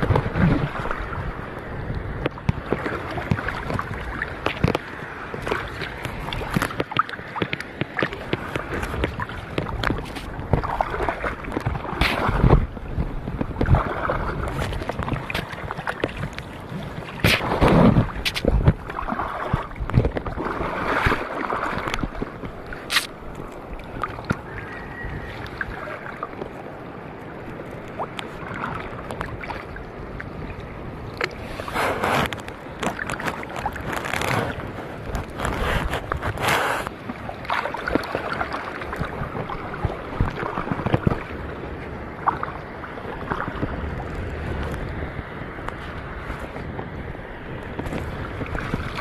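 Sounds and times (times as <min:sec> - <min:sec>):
wind buffeting microphone: 0:00.0 - 0:27.2, 0:28.8 - 0:49.0
water sloshing and splashing: 0:00.0 - 0:49.0.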